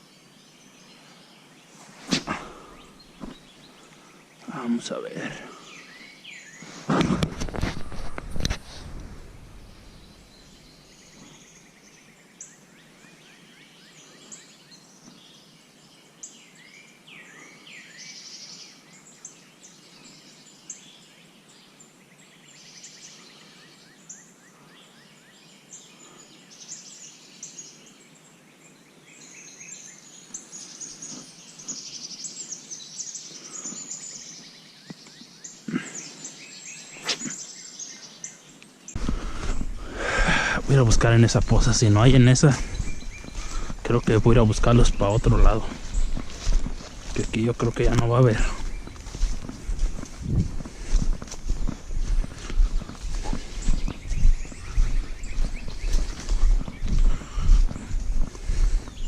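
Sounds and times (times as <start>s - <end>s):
birds singing and chirping: 0.0s - 59.0s
quiet outdoor background noise: 0.0s - 59.0s.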